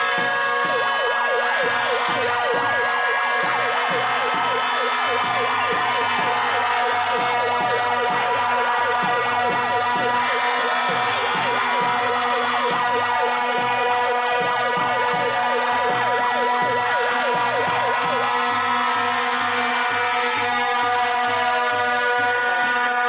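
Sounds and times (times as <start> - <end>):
megaphone sirens wailing: 0.0 - 23.0
plastic horn blasts: 0.0 - 23.0.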